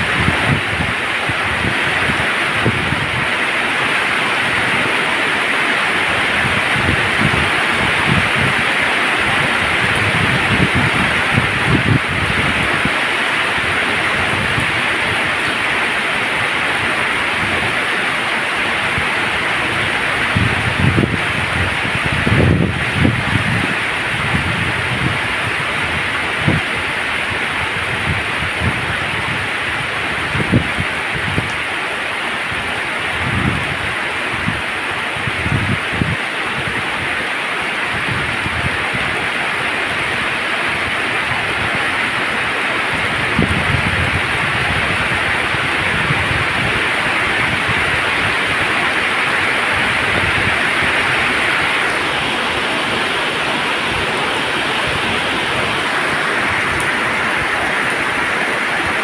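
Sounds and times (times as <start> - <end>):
heavy rain on road: 0.0 - 59.0.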